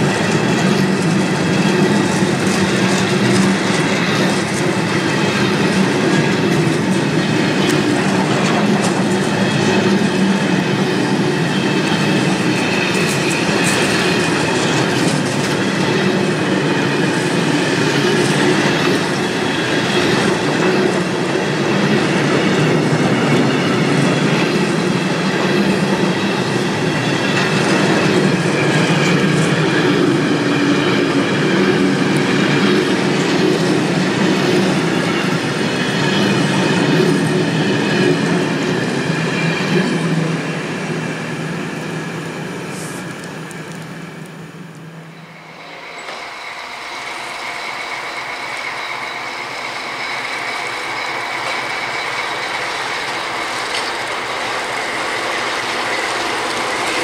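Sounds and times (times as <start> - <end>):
train wheels on rails: 0.0 - 57.0.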